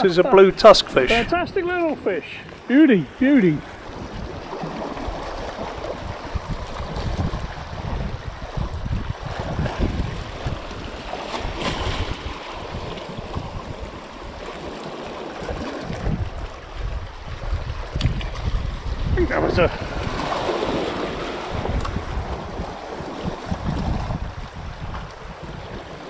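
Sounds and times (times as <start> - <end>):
wind buffeting microphone: 0.0 - 26.0
small waves splashing over rocks: 3.6 - 26.0.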